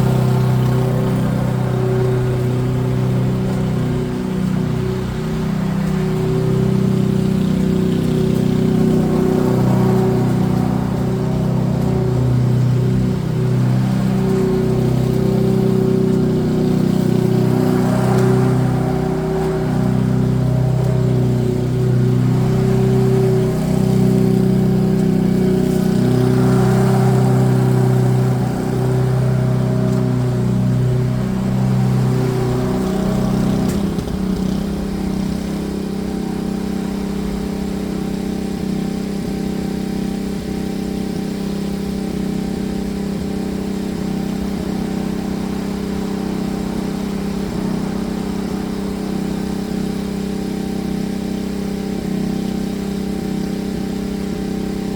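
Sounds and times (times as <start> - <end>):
petrol lawn mower engine running: 0.0 - 54.9.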